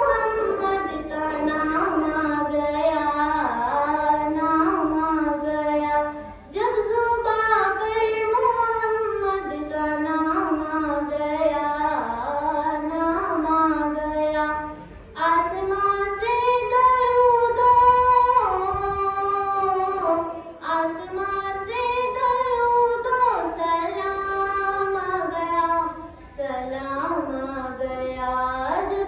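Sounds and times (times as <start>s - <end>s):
girl singing into a microphone: 0.0s - 29.0s.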